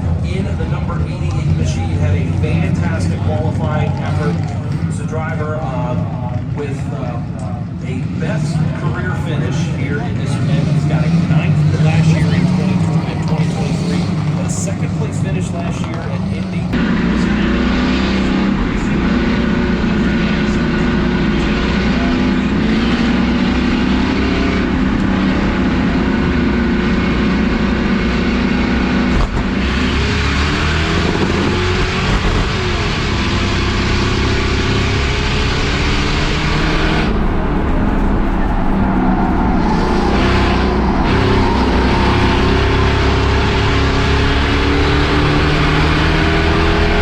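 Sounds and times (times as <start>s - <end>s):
race car engines revving: 0.0s - 47.0s.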